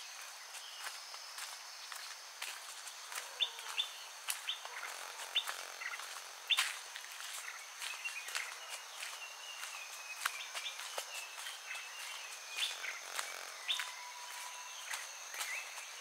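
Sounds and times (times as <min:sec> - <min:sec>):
birds chirping: 0:00.0 - 0:16.0
crickets chorus: 0:00.0 - 0:16.0.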